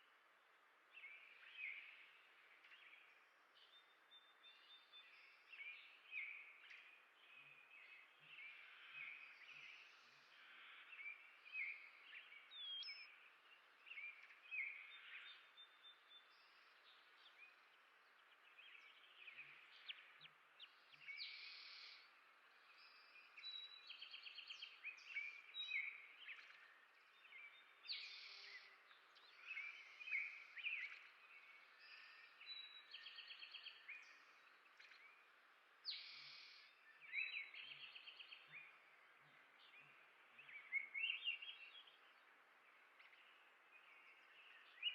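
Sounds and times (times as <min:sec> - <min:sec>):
faint outdoor hiss: 0:00.0 - 0:44.9
songbirds chirping: 0:00.0 - 0:44.9.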